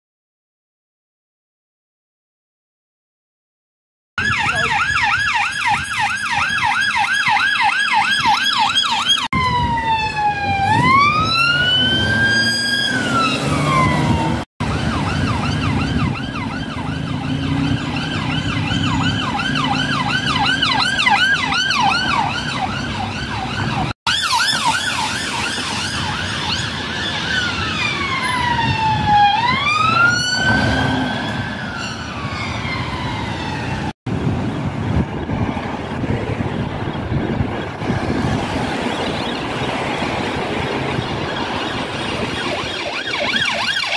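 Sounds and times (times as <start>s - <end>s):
police sirens: 4.2s - 43.9s
engines humming: 5.7s - 43.9s.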